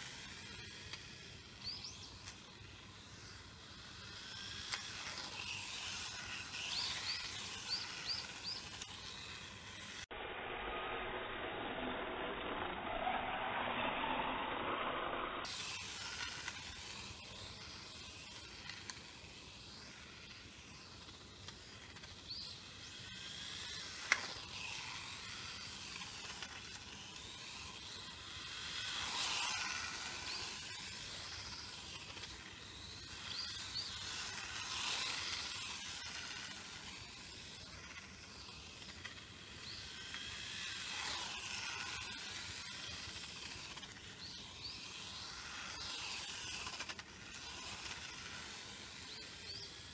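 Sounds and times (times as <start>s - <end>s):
toy car motor whine: 0.0s - 10.1s, 10.8s - 49.9s.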